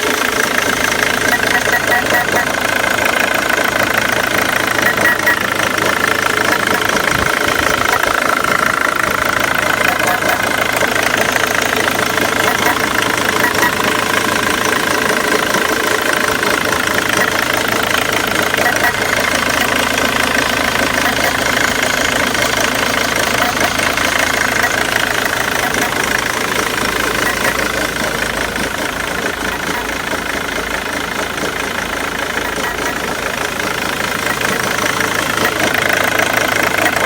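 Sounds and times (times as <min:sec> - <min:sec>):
diesel engine idling roughly: 0:00.0 - 0:37.0.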